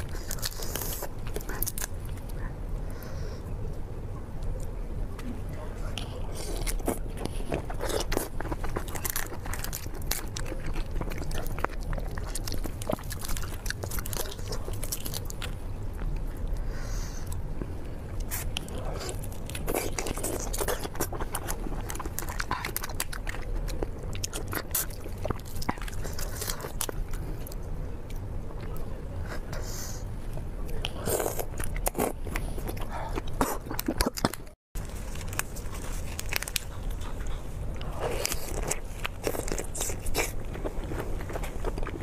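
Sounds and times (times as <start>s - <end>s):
chewing and wet mouth noises: 0.0s - 3.8s, 4.4s - 42.0s.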